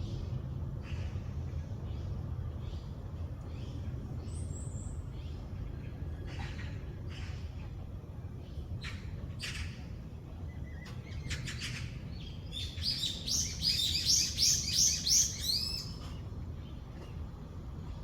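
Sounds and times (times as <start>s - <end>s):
low outdoor rumble: 0.0s - 18.0s
songbird singing: 1.0s - 18.0s.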